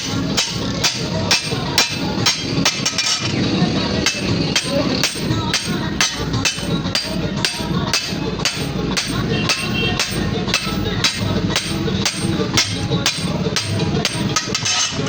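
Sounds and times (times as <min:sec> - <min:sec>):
hammer striking steel on anvil: 0:00.0 - 0:03.4, 0:04.0 - 0:15.0.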